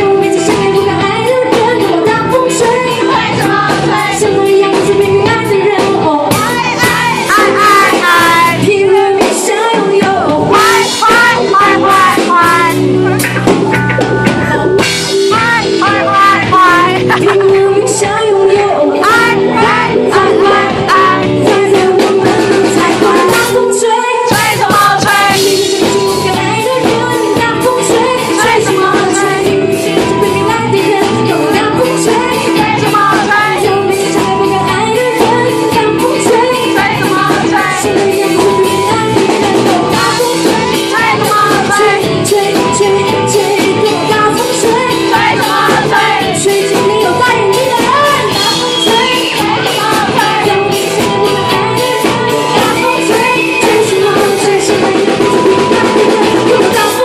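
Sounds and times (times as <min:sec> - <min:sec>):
woman singing: 0:00.0 - 0:13.0, 0:14.3 - 0:57.0
live pop-rock band: 0:00.0 - 0:57.0.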